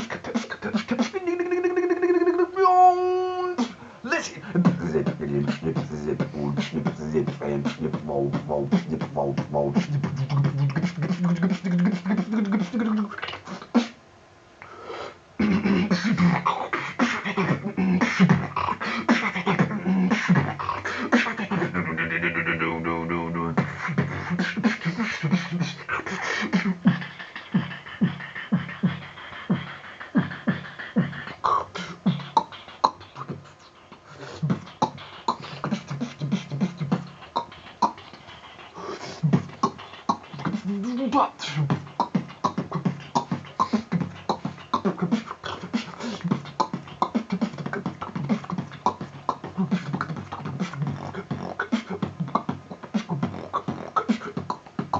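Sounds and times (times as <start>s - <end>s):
person beatboxing: 0.0s - 14.0s, 14.6s - 54.9s.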